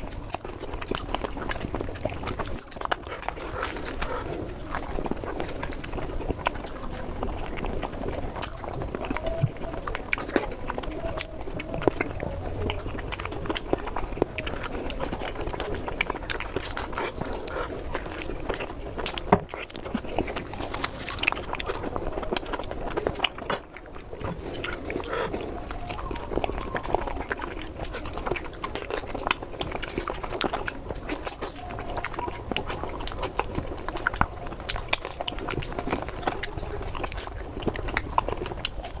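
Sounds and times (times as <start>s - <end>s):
close-up chewing: 0.0s - 39.0s.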